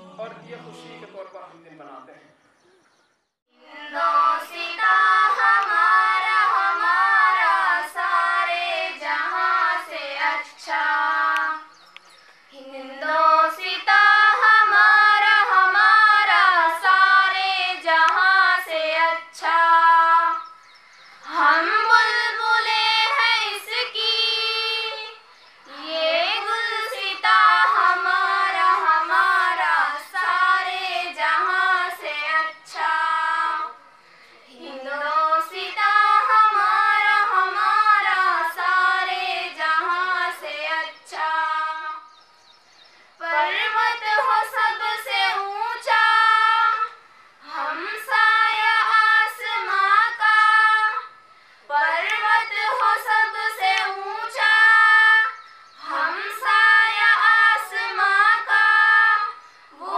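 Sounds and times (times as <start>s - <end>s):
girls singing unaccompanied: 3.5s - 42.4s, 43.1s - 59.9s.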